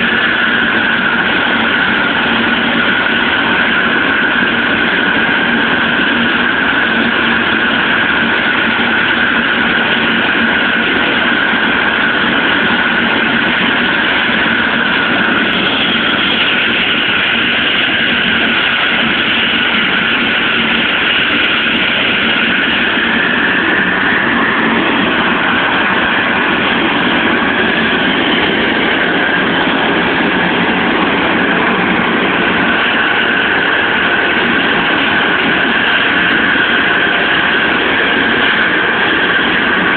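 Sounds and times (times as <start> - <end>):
helicopter turbine engines whining: 0.0 - 39.9
rushing noise: 0.0 - 39.9.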